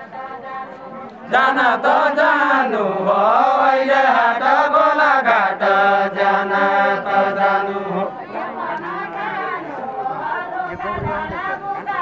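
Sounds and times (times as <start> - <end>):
men singing unaccompanied: 0.0 - 12.0.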